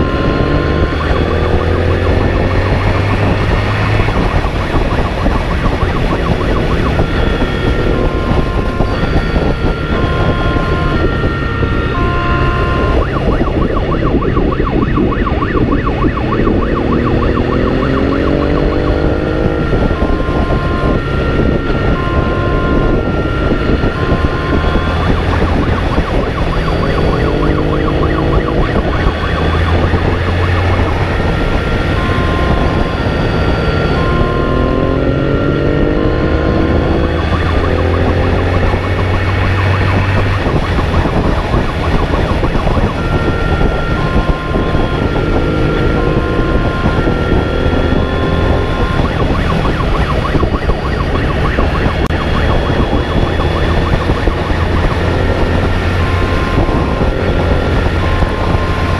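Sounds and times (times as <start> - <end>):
motorcycle engine accelerating: 0.0 - 58.9
two-tone police siren: 0.0 - 58.9
wind and road rush: 0.0 - 58.9.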